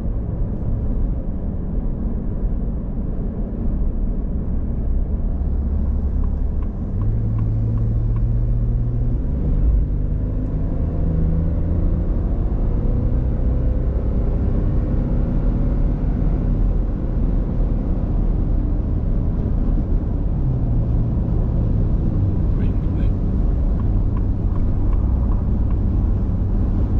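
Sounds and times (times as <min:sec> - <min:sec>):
car engine hum: 0:00.0 - 0:26.9
road rumble: 0:00.0 - 0:26.9.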